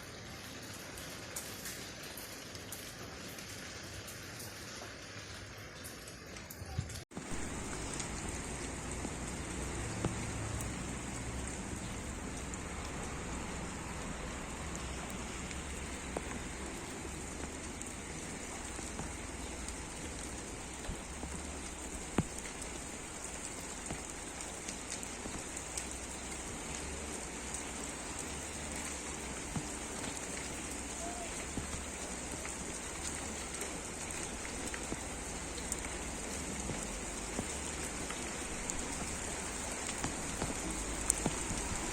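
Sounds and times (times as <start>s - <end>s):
steady rain falling: 0.0s - 41.9s
drops ticking on a surface: 6.9s - 41.9s.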